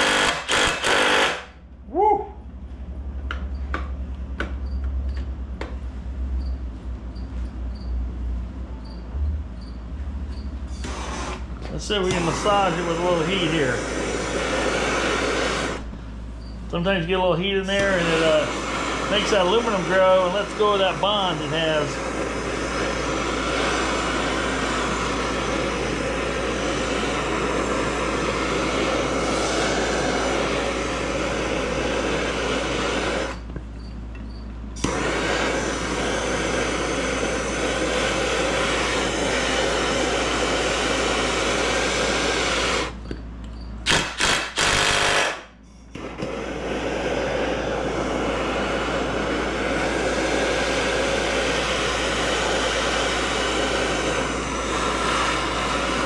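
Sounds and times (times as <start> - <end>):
propane torch hissing: 0.0 - 1.6, 10.6 - 33.7, 34.7 - 43.2, 43.8 - 56.0.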